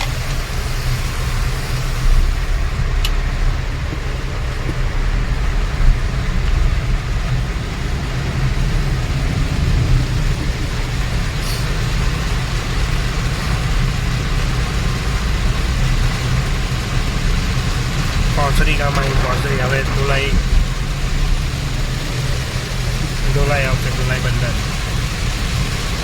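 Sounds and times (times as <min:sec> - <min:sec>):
car engine and tyres rumbling: 0:00.0 - 0:26.0
hiss of spray and rain: 0:00.0 - 0:26.0.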